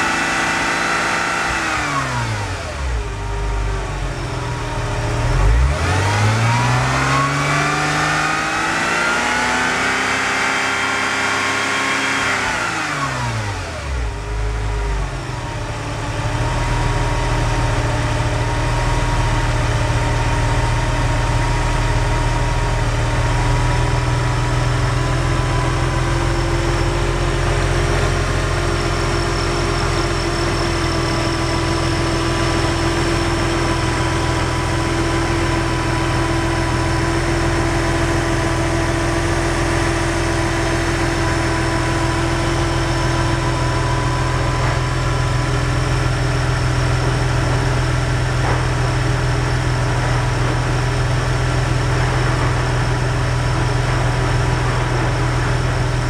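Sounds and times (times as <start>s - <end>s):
car engine idling: 2.2s - 6.2s, 13.3s - 56.0s.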